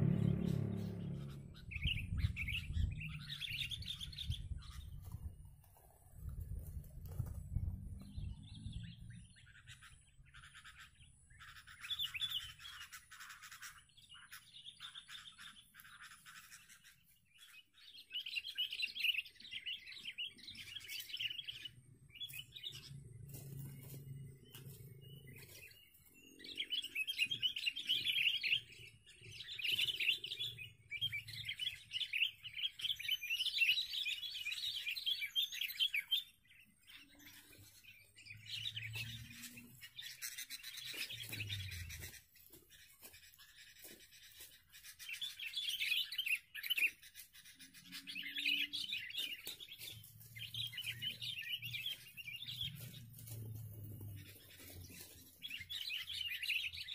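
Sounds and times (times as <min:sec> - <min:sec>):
bulbuls singing chattering notes: 0:00.0 - 0:07.4, 0:08.0 - 0:56.9.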